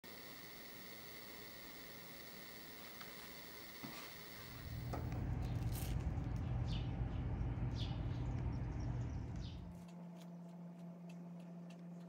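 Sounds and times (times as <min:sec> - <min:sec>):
low hum: 0:00.0 - 0:12.0
low outdoor rumble: 0:00.1 - 0:12.0.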